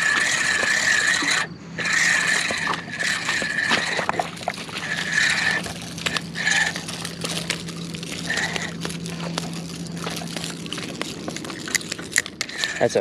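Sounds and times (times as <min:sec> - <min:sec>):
rod handling clicks and scrapes: 0:00.0 - 0:13.0
spinning reel humming: 0:00.0 - 0:13.0.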